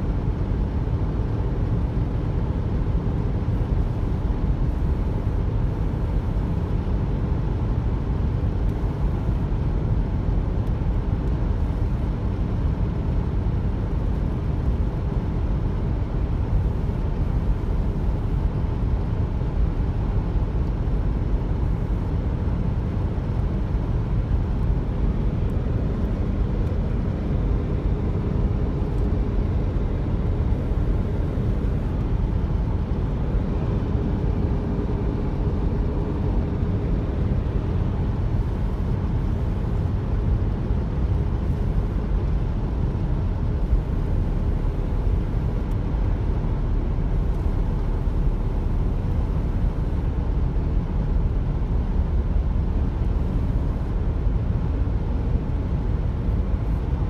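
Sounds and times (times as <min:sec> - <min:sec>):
car engine hum: 0:00.0 - 0:57.0.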